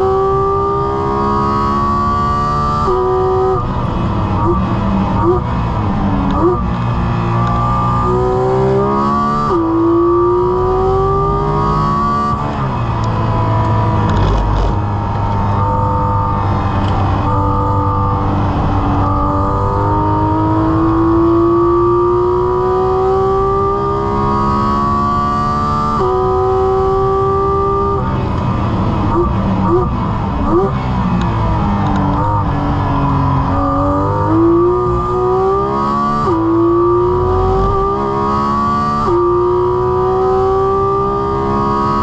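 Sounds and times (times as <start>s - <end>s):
car engine accelerating in cabin: 0.0s - 42.0s.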